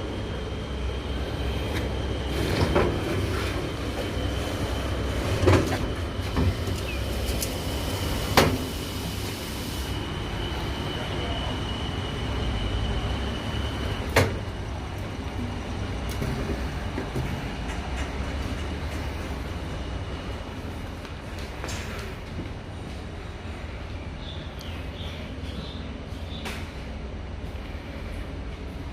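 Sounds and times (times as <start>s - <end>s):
lorry engine low rumble: 0.0s - 28.9s.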